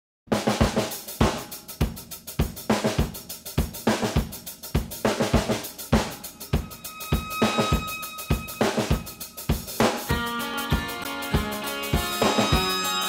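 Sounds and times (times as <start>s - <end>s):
drum kit beat: 0.3s - 13.0s.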